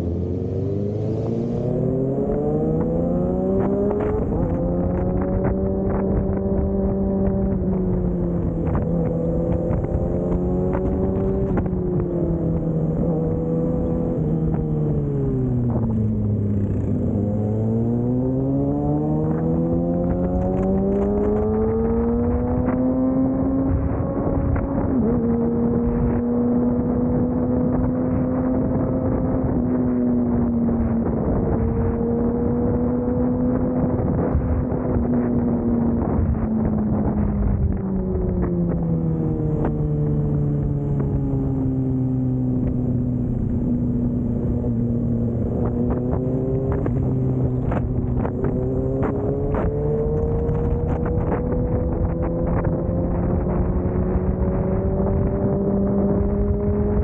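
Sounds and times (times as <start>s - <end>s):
motorcycle engine running: 2.8s - 57.0s.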